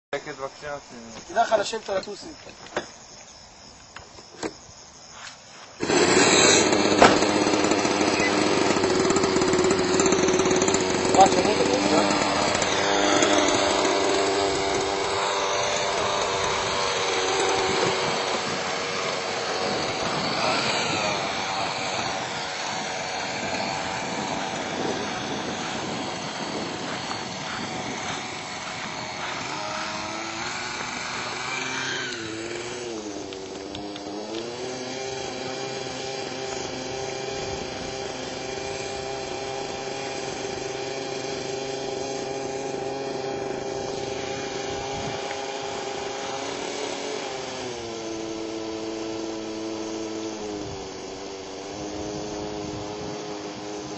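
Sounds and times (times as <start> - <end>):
model helicopter engine and rotor: 5.8 - 53.9.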